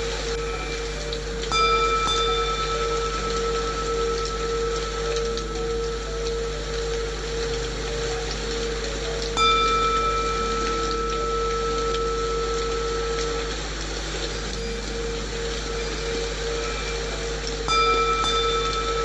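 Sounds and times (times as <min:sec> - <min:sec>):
low sustained hum: 0:00.0 - 0:19.0
rain white noise hiss: 0:00.0 - 0:19.0
singing bowl ringing: 0:00.0 - 0:19.0.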